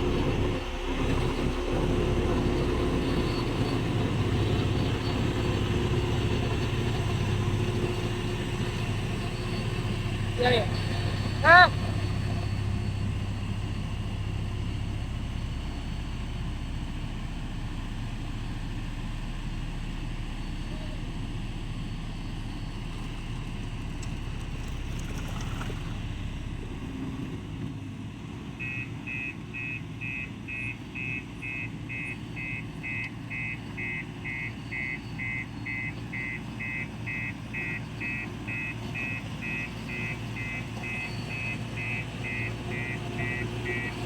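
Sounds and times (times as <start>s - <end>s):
reversing alarm beeping: 0.0s - 26.9s, 28.6s - 44.0s
heavy diesel machinery running: 0.0s - 44.0s.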